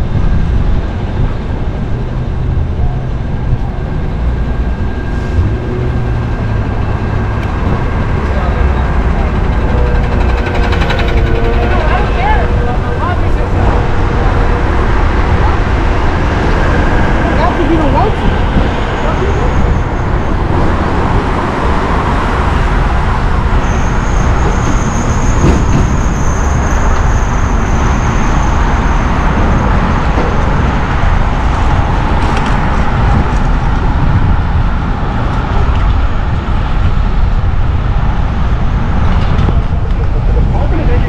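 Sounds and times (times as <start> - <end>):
street traffic rumble: 0.0 - 41.0.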